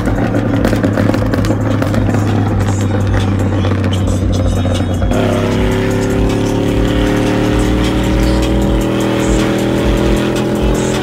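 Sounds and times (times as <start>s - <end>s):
background music with beat: 0.0s - 11.0s
vehicle engine droning: 0.0s - 11.0s.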